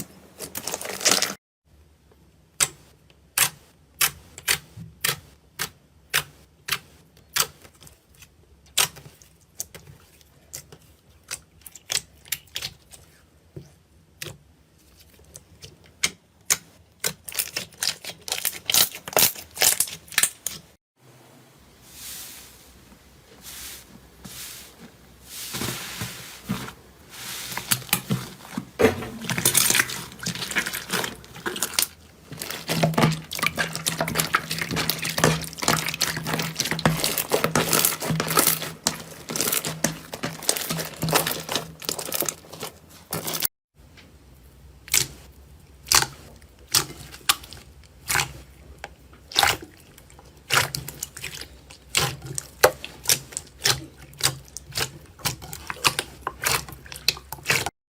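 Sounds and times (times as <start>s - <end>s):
slime squishing: 2.6s - 20.8s, 22.4s - 43.5s, 44.8s - 57.7s.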